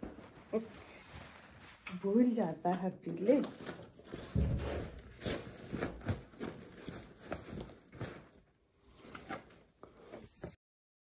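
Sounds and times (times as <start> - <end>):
fabric bag rustling: 0.0 - 2.5, 3.1 - 10.2.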